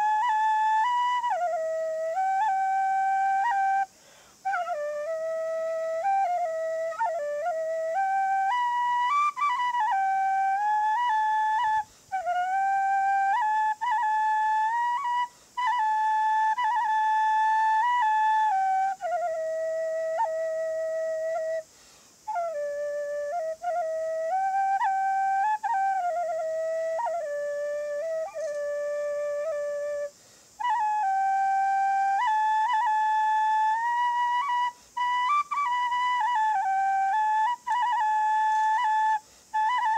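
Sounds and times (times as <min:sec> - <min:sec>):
duct flute melody: 0:00.0 - 0:39.9.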